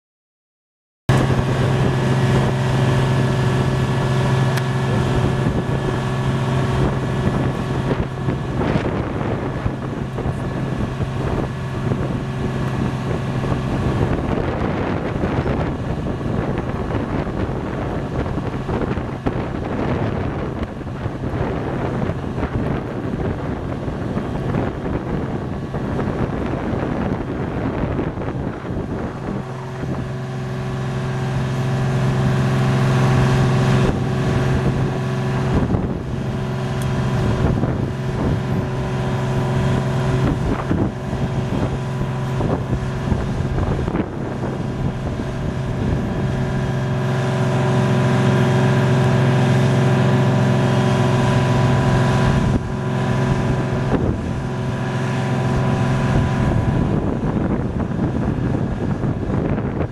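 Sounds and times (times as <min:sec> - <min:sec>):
diesel engine humming: 0:01.1 - 0:59.9
wind buffeting microphone: 0:01.1 - 0:59.9.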